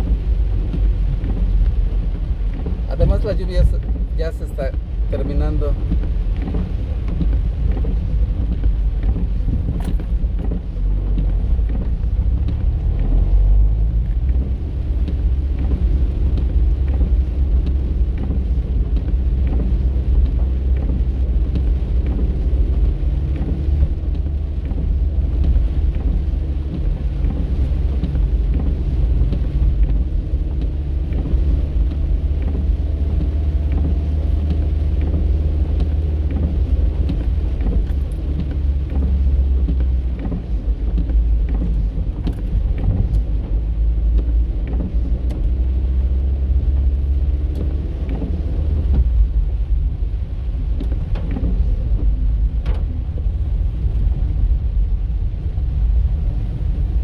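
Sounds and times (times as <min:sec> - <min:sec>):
car engine rumble: 0:00.0 - 0:57.0
tyres on wet pavement: 0:00.0 - 0:57.0.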